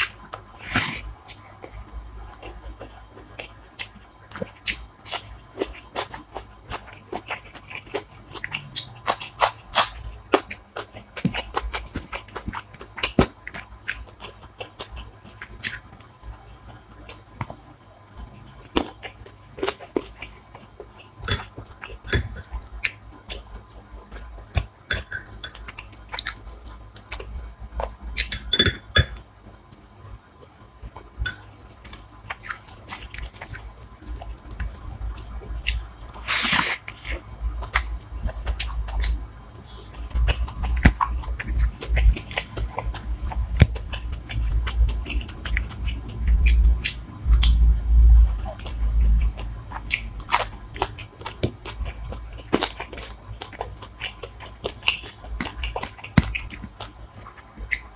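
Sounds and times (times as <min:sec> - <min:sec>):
chewing and crunching: 0:00.0 - 0:57.9.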